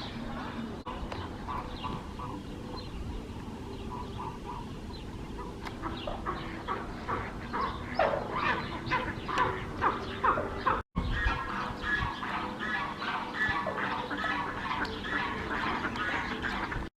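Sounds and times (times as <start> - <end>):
ducks calling: 0.0 - 16.9.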